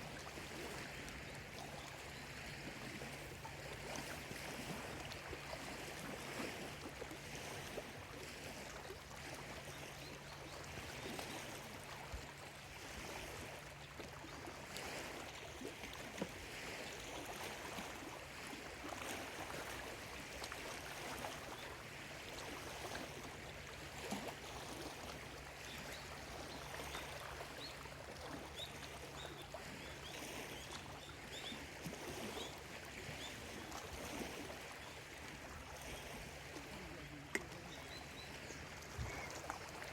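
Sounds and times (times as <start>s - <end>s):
lake waves lapping at shore: 0.0s - 39.9s.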